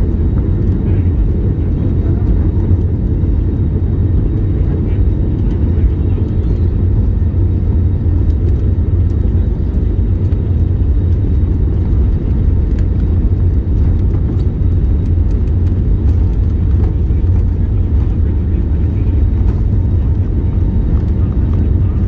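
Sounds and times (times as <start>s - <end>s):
jet engines at takeoff thrust: 0.0s - 22.0s
wheels rumbling on runway: 0.0s - 22.0s.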